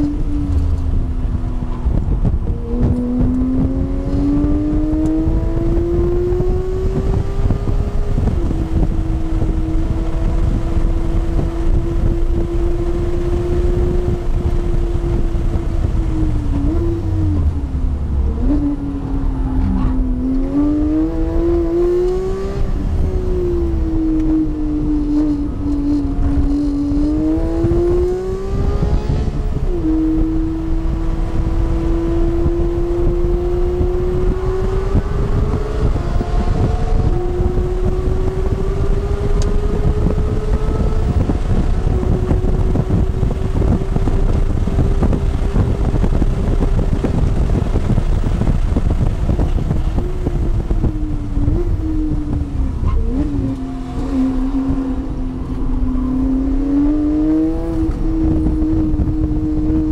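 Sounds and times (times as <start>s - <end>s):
sports car engine accelerating: 0.0s - 59.9s
wind and road roar: 0.0s - 59.9s.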